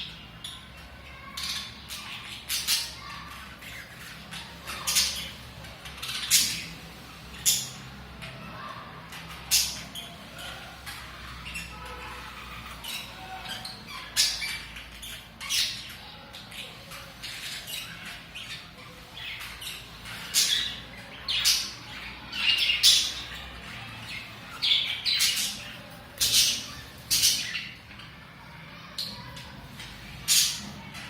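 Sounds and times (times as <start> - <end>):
budgerigars chirping chatter: 0.0 - 31.0.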